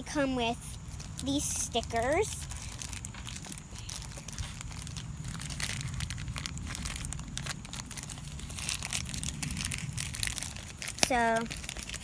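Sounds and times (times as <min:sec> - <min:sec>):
toy packaging crinkling: 0:00.2 - 0:12.0.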